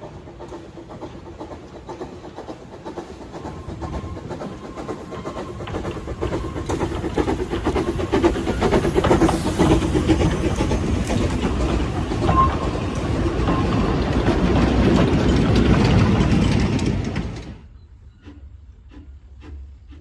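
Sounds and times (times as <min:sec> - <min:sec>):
steam locomotive passing: 0:00.0 - 0:20.0
wheels clicking on track: 0:00.0 - 0:20.0.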